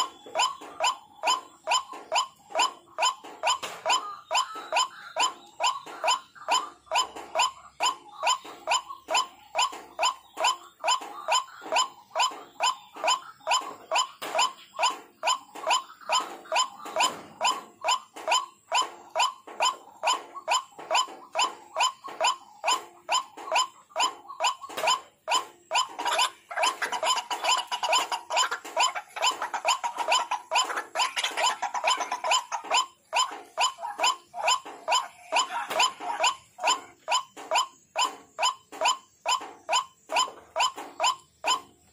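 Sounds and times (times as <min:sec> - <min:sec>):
waterhen calling: 0:00.0 - 0:41.9.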